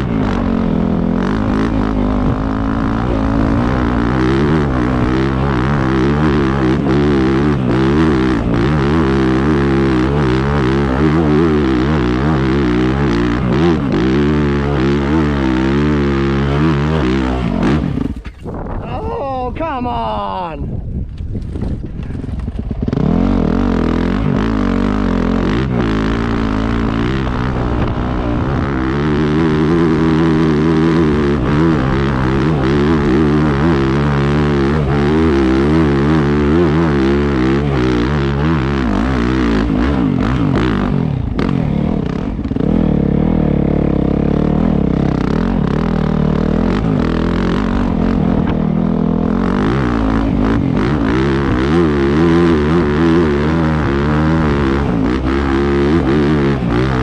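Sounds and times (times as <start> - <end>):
dirt bike engine revving: 0.0 - 18.8, 21.6 - 57.0.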